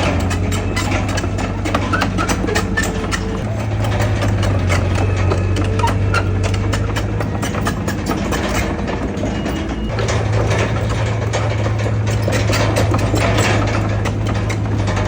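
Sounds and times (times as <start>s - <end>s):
bulldozer diesel engine running: 0.0s - 15.0s
rapid metallic clanks and rattles: 0.0s - 15.0s.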